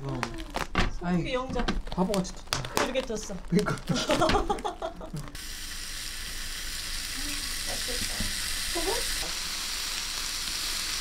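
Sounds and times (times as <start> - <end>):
beef sizzling: 0.0 - 11.0.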